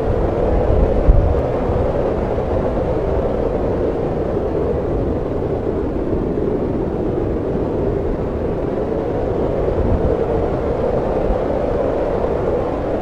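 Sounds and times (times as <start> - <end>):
snowstorm wind rushing: 0.0 - 13.0.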